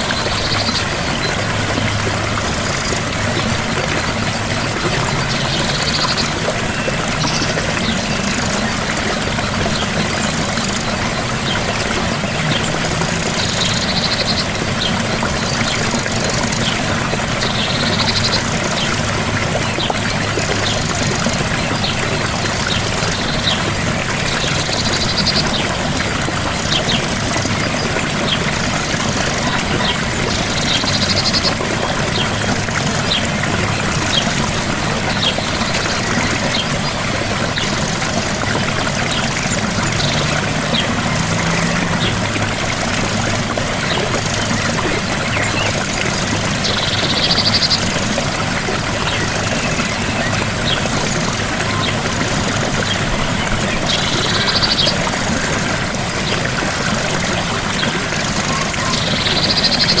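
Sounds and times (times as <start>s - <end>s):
waterfall splashing: 0.0s - 60.0s.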